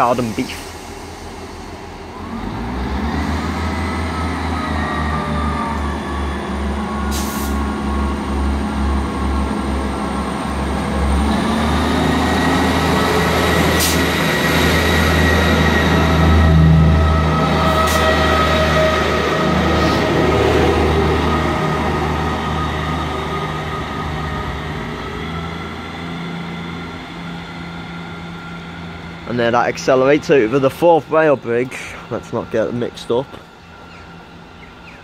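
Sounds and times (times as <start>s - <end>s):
diesel train engines revving: 0.0s - 35.0s.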